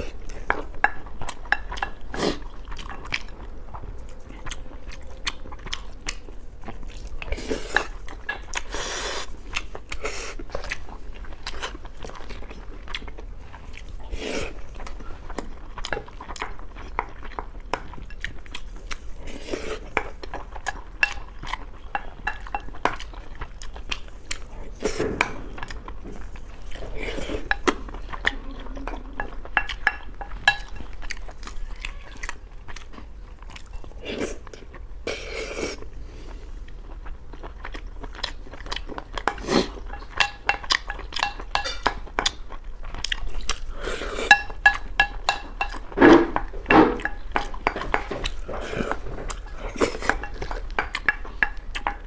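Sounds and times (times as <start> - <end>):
person chewing and biting: 0.1 - 28.4, 36.7 - 52.0.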